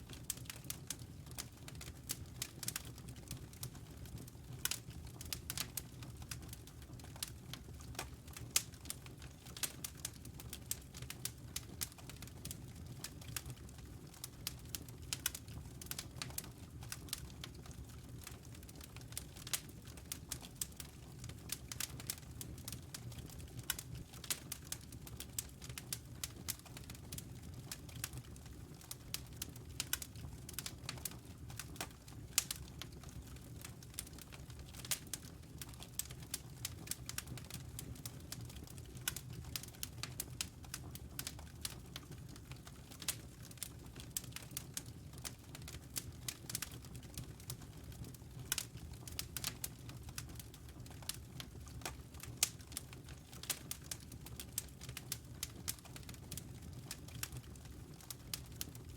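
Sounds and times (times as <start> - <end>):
log fire crackling: 0.0 - 58.9.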